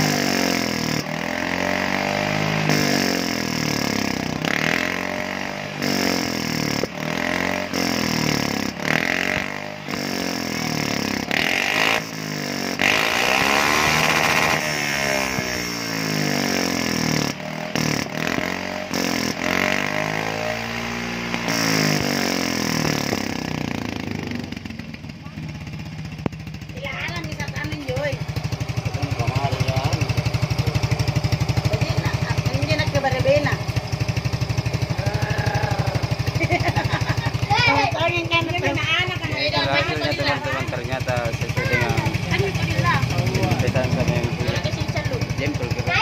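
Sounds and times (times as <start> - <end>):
scooter engine revving: 0.0 - 46.0.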